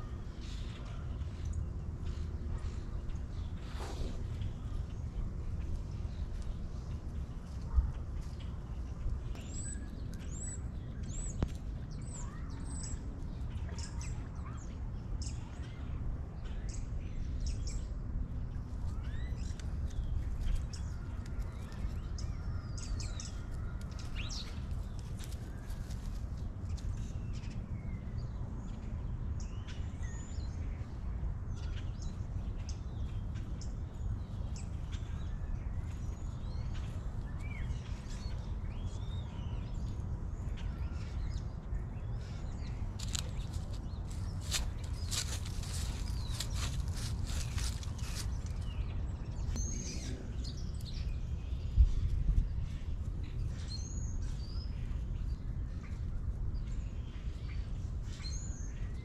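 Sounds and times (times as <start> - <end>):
small birds chirping: 0.0 - 30.8, 31.6 - 59.0
low outdoor rumble: 0.0 - 59.0.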